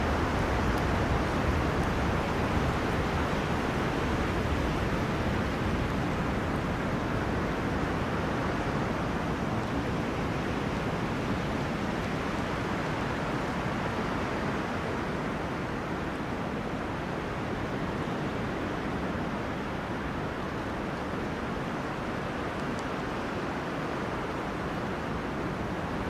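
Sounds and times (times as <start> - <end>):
wind through trees: 0.0 - 26.0.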